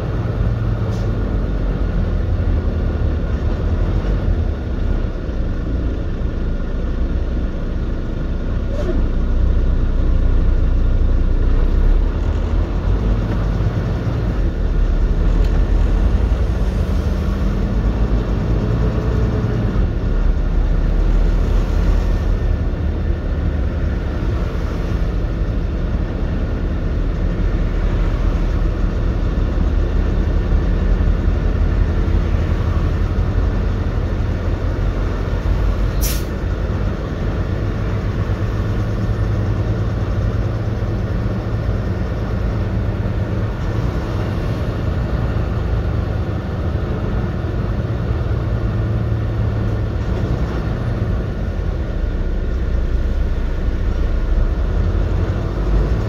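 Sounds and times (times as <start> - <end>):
truck engine drone: 0.0 - 56.0
tyre and road noise: 0.0 - 56.0.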